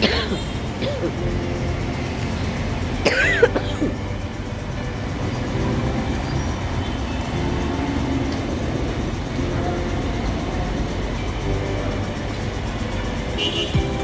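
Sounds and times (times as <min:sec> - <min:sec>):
vehicle interior rumble: 0:00.0 - 0:14.0.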